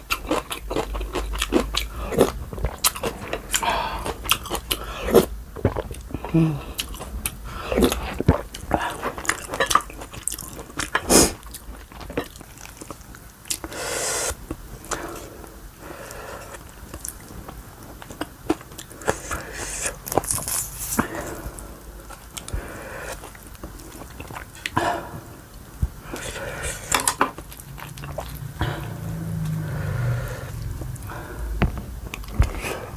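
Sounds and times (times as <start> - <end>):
close chewing and crunching: 0.0 - 32.9.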